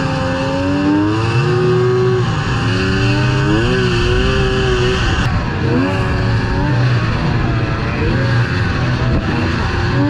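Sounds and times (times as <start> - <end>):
rush of wind and snow: 0.0 - 10.0
snowmobile engine revving: 0.0 - 10.0.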